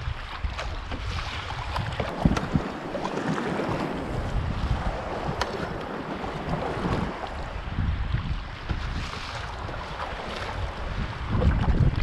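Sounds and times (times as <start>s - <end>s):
paddles splashing: 0.0s - 12.0s
water lapping against hull: 0.0s - 12.0s
wind buffeting the microphone: 0.0s - 12.0s.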